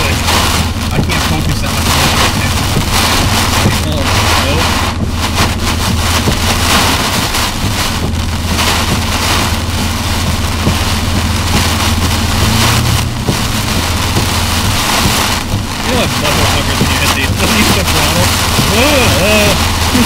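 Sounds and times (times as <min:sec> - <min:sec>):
heavy rain on car windshield: 0:00.0 - 0:20.0
vehicle low drone: 0:00.0 - 0:20.0.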